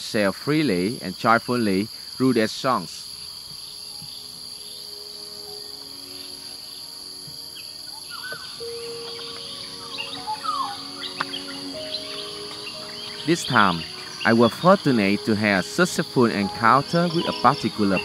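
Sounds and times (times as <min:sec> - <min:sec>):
insects trilling high: 0:00.0 - 0:18.0
birds calling: 0:03.0 - 0:18.0
soft held music notes: 0:03.5 - 0:18.0.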